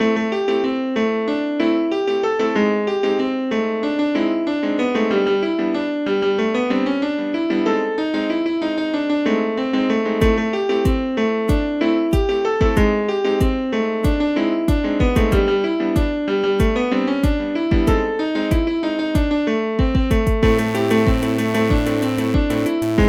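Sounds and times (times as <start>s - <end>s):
software piano melody: 0.0s - 23.0s.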